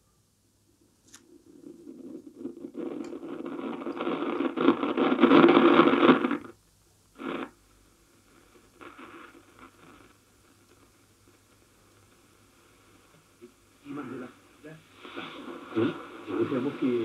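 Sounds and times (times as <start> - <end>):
radio static while tuning: 1.4 - 6.5, 7.2 - 7.5, 8.4 - 17.0.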